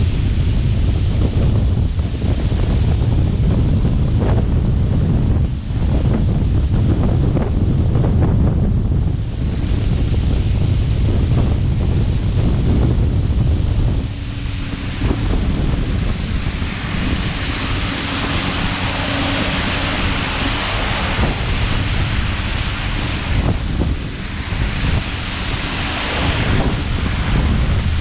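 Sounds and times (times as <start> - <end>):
boat motor hum: 0.0 - 28.0
water rushing: 0.0 - 28.0
wind buffeting microphone: 0.0 - 28.0.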